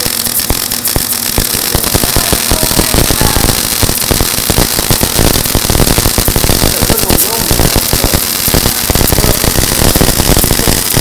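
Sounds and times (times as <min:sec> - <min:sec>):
welding arc crackling: 0:00.0 - 0:11.0.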